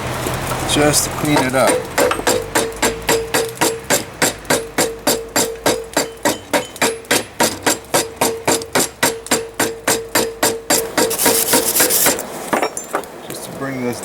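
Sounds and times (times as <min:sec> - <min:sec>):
anvil ringing: 0:00.7 - 0:13.0
hammer striking metal on anvil: 0:01.2 - 0:13.1.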